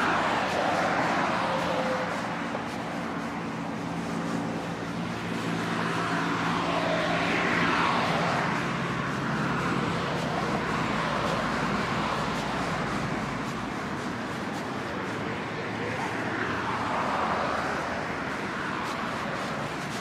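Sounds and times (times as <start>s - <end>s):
road traffic hum: 0.0s - 20.0s
vehicle passing: 0.0s - 20.0s.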